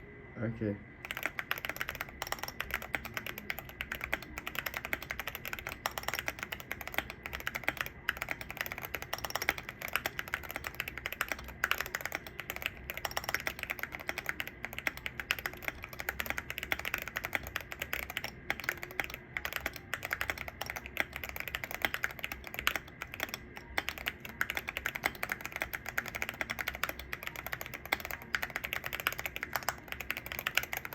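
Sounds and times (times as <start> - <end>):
mechanical keyboard typing: 1.0 - 30.9.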